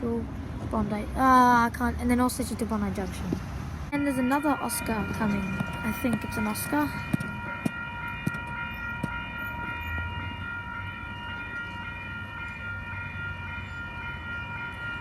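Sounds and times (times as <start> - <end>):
low train rumble: 0.0 - 15.0
electric train whine: 3.0 - 15.0.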